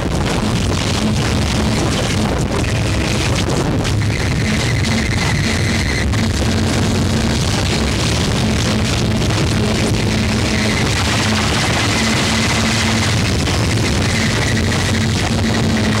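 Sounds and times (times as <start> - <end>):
distorted noise music: 0.0 - 16.0.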